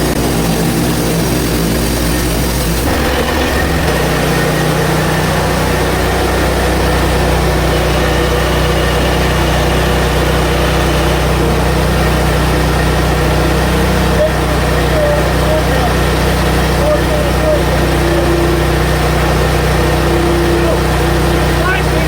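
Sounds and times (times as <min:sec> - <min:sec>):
gas engine running: 0:00.0 - 0:22.0.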